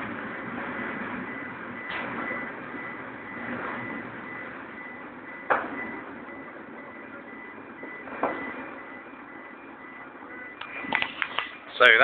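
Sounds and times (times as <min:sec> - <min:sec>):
high electronic warning tone: 0:01.2 - 0:11.0.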